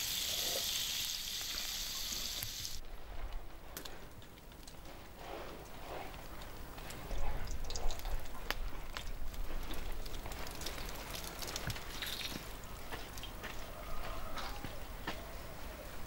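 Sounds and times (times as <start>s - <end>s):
campfire crackling: 0.0s - 13.5s.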